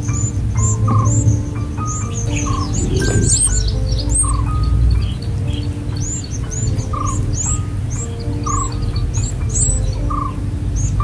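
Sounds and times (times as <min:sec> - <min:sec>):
soft piano notes: 0:00.0 - 0:11.0
bird chirping: 0:00.1 - 0:11.0.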